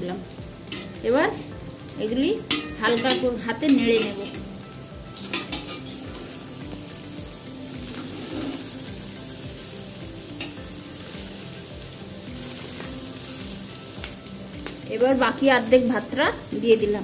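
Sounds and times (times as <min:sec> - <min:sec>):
rice sizzling in hot oil: 0:00.0 - 0:17.0.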